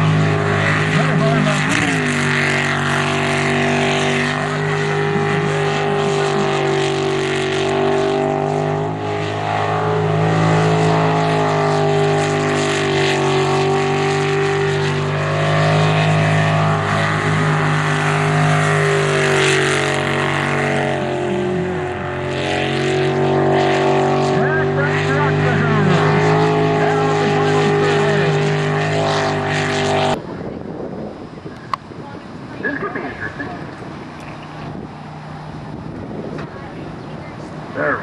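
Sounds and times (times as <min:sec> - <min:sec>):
jet boat engine running hard: 0:00.0 - 0:38.0.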